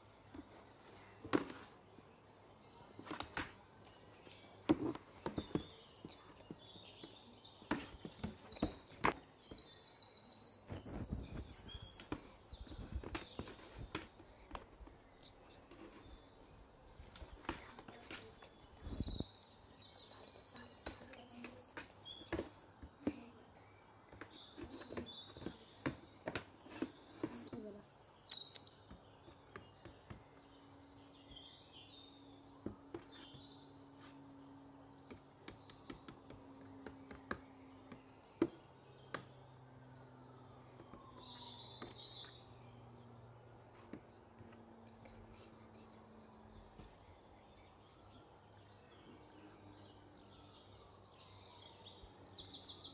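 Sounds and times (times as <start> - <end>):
small birds chirping and trilling: 0.0 - 52.9.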